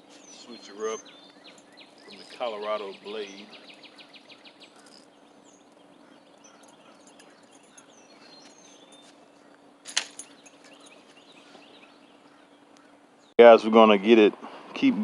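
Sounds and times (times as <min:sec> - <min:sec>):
soft bird chirps: 0:00.0 - 0:13.3
steady low hum: 0:00.0 - 0:15.0.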